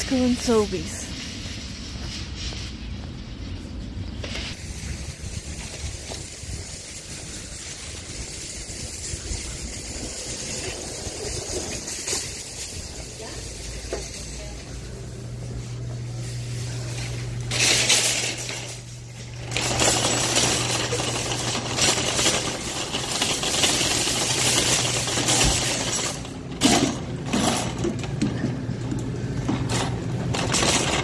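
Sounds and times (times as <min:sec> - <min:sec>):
shopping cart rattling: 0:00.0 - 0:01.7, 0:04.6 - 0:31.0
steady low hum: 0:00.0 - 0:31.0.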